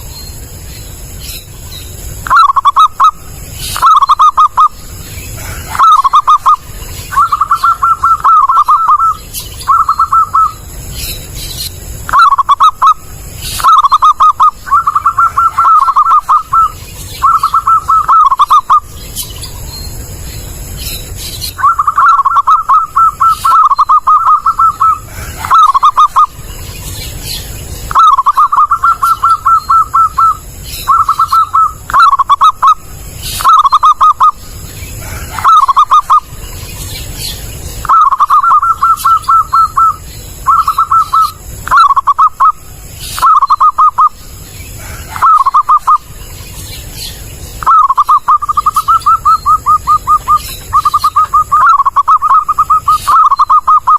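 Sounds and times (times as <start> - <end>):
dove cooing: 2.2 - 10.8, 12.0 - 18.9, 21.4 - 46.2, 47.1 - 53.9.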